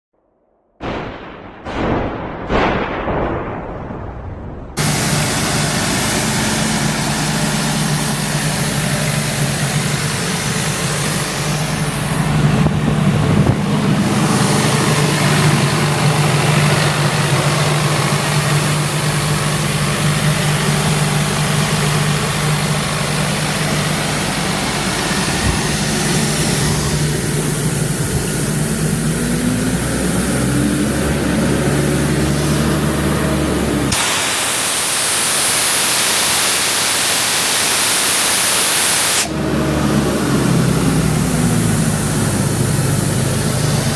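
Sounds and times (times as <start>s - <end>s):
diesel air compressor engine running: 4.8s - 43.9s.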